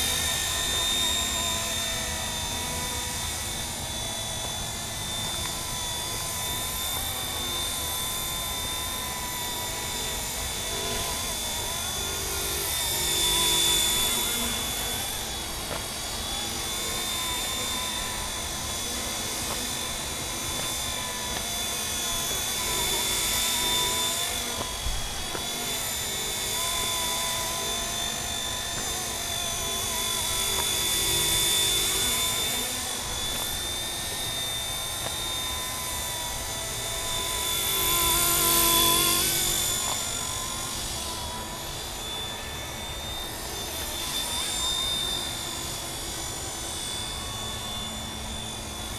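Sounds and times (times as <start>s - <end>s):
high motor whine: 0.0s - 48.9s
model helicopter rotor noise: 0.0s - 48.9s.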